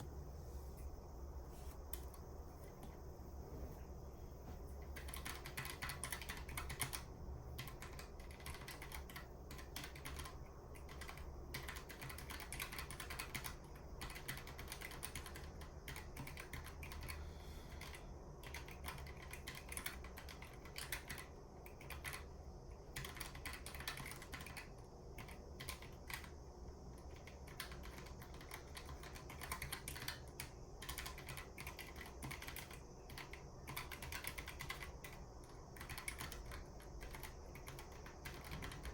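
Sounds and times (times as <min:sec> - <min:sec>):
mechanical keyboard typing: 0:04.9 - 0:17.2, 0:17.8 - 0:38.9.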